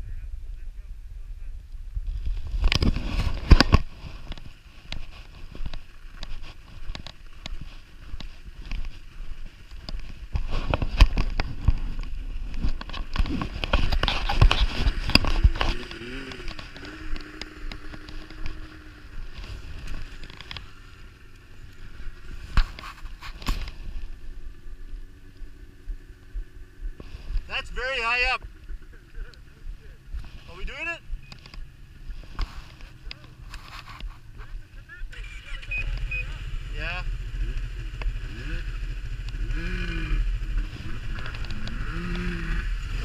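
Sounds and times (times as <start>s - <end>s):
snowmobile engines running: 0.0s - 43.0s.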